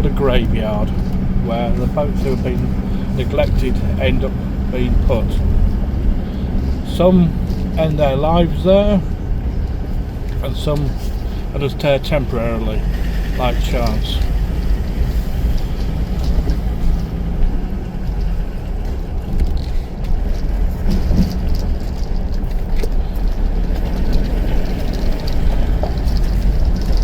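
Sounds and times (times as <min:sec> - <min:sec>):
car driving slowly: 0:00.0 - 0:27.0.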